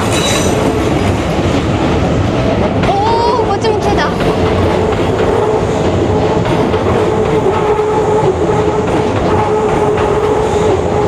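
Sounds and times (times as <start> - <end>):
train passing close: 0.0 - 11.0.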